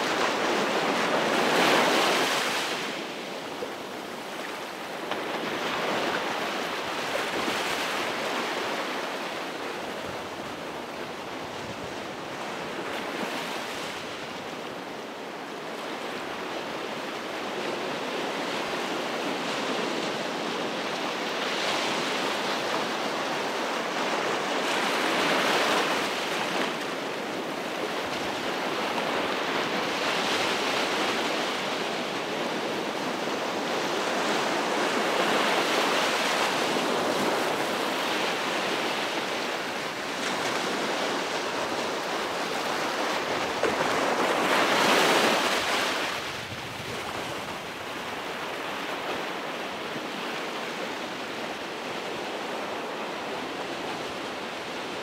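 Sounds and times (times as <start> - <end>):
ocean surf washing onto beach: 0.0 - 55.0.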